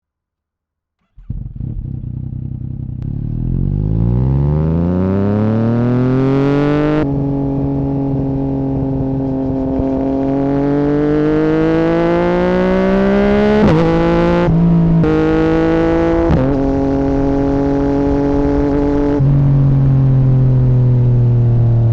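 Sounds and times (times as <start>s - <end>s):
motorcycle exhaust accelerating: 1.0s - 21.9s.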